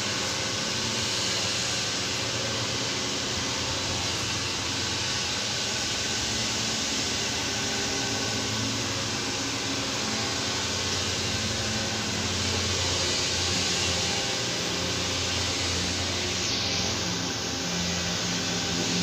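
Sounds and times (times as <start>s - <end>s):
machine hiss: 0.0s - 19.0s
machine hum: 0.0s - 19.0s.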